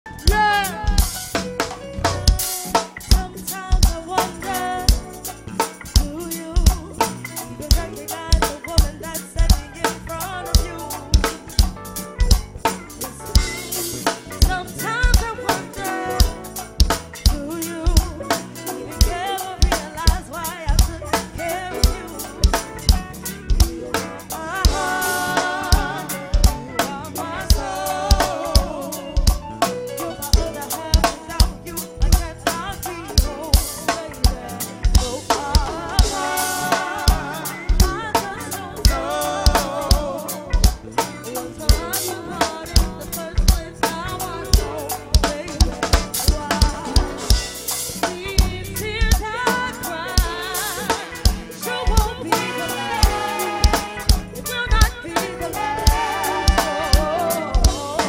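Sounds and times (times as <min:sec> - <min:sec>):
r and b music with drum beat: 0:00.0 - 0:58.0.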